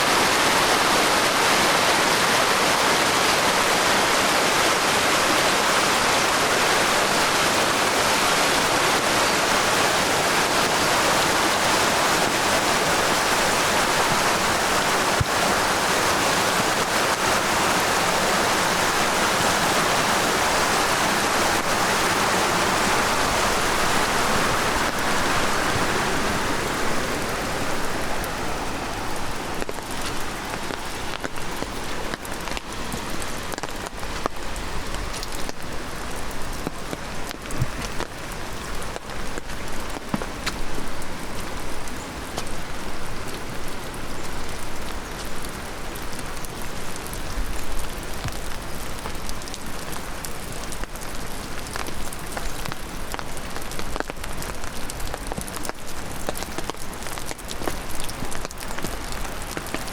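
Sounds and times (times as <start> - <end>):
heavy rain falling: 0.0 - 59.9
stream rushing: 0.0 - 59.9.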